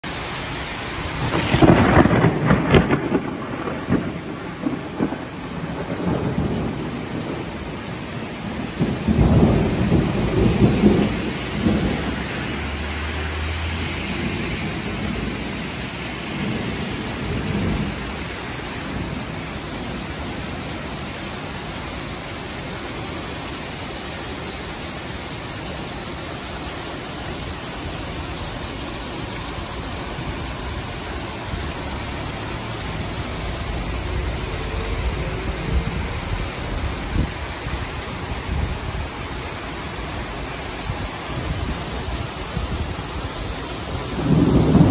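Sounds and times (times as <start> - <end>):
heavy rain falling: 0.0 - 44.9
thunder rumbling: 1.0 - 21.4, 27.4 - 44.9.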